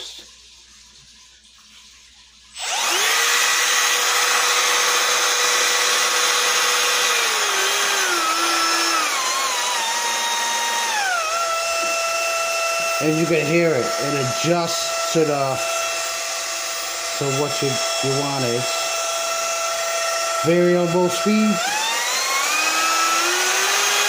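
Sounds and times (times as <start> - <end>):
router whining: 2.5 - 24.0.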